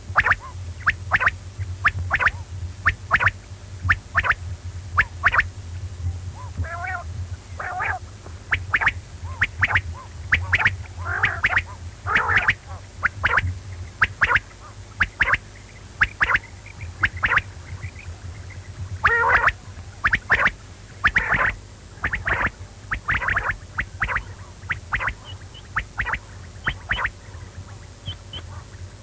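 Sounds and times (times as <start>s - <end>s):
steady low hum: 0.0s - 29.0s
quail calling: 0.1s - 4.4s, 5.0s - 5.5s, 6.3s - 29.0s.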